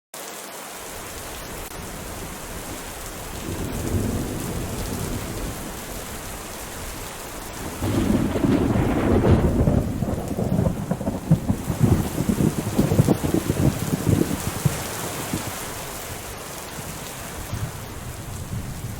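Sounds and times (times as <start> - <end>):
steady rain: 0.2 - 18.9
thunder rumbling: 1.1 - 18.9.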